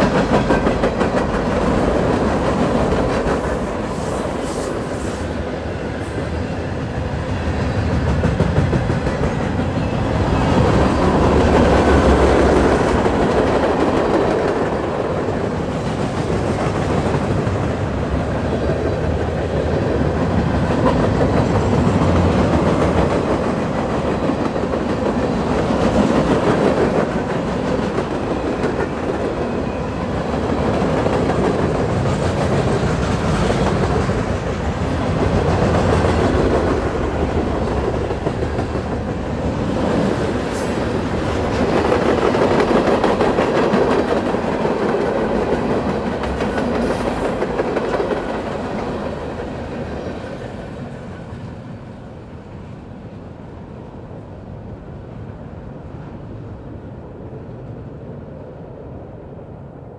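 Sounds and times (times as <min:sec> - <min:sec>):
freight train wheels clattering: 0:00.0 - 0:05.2, 0:07.3 - 0:50.5.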